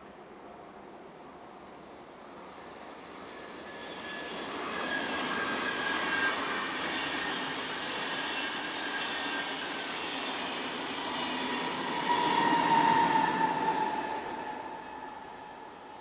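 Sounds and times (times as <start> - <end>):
train passing with whining tones: 0.0 - 16.0.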